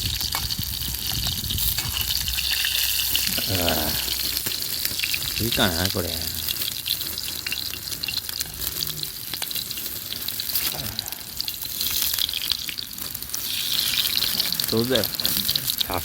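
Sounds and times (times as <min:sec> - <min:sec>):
chicken frying over campfire: 0:00.0 - 0:16.0
crackles and pops: 0:00.0 - 0:16.0.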